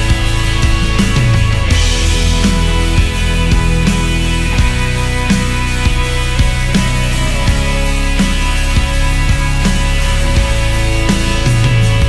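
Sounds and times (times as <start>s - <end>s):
steady drum beat: 0.0s - 12.0s
sustained chords: 0.0s - 12.0s.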